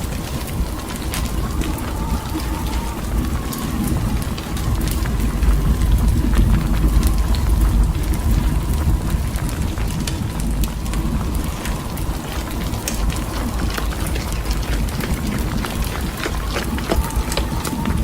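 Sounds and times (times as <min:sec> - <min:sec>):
small ticks: 0:00.0 - 0:18.0
storm wind on microphone: 0:00.0 - 0:18.0.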